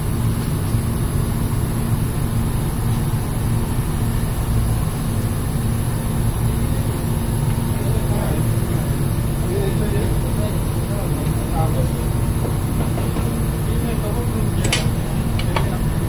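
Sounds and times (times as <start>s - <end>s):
engine room machinery drone: 0.0s - 16.0s.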